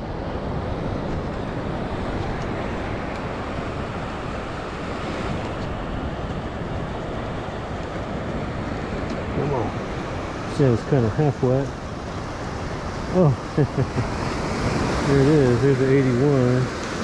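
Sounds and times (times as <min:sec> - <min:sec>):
surf washing on shore: 0:00.0 - 0:17.0
wind buffeting microphone: 0:00.0 - 0:17.0.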